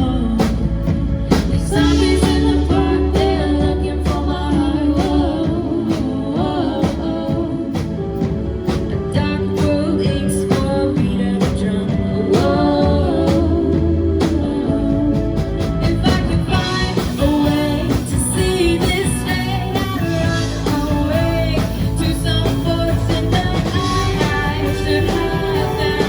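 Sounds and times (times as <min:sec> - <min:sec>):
drums: 0:00.0 - 0:26.0
person singing: 0:00.0 - 0:26.0
rock music: 0:00.0 - 0:26.0.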